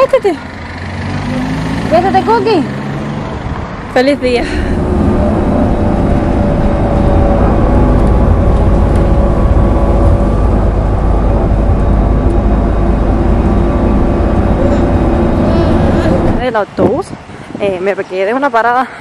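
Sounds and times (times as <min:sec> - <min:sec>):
bus drive and road rumble: 0:00.0 - 0:19.0.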